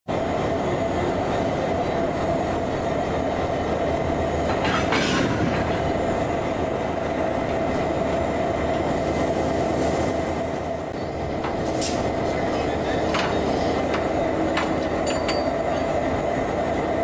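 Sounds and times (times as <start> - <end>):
diesel locomotive idling: 0.1 - 17.0.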